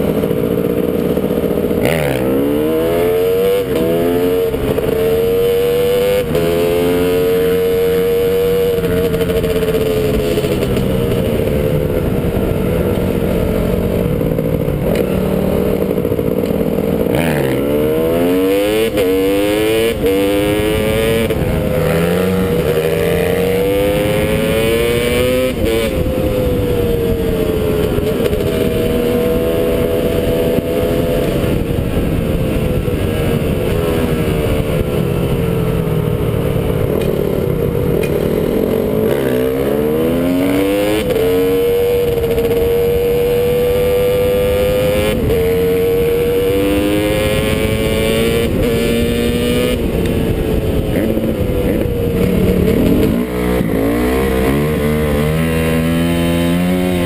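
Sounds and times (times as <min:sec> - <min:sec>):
dirt bike engine accelerating: 0:00.0 - 0:57.0
wind rushing over microphone: 0:00.0 - 0:57.0.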